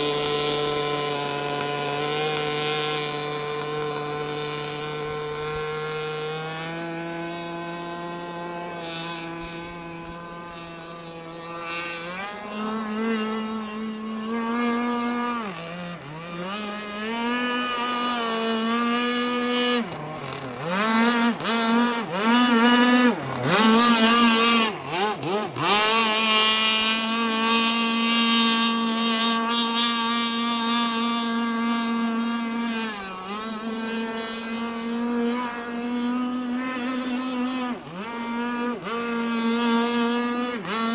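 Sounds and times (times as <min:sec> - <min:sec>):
model boat motor whining: 0:00.0 - 0:40.9.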